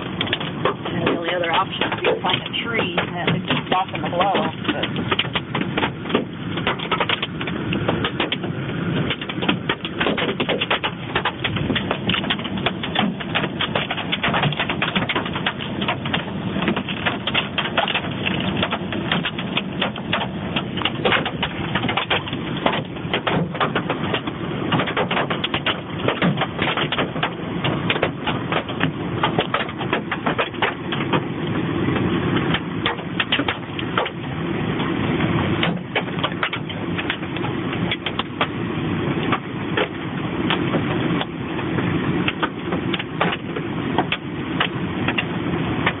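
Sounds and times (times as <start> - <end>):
hail clattering: 0.0 - 46.0
steady rushing noise: 0.0 - 46.0.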